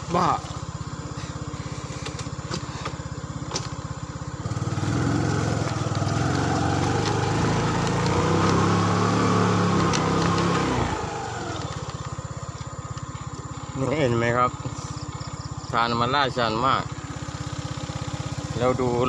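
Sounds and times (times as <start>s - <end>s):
small motorcycle engine revving: 0.0s - 19.0s.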